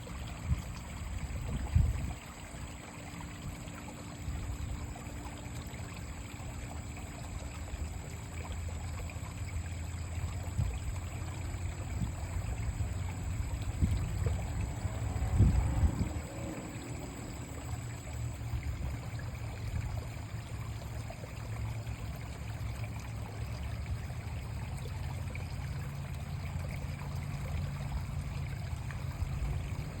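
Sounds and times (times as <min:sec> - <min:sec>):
creek water running: 0:00.0 - 0:30.0.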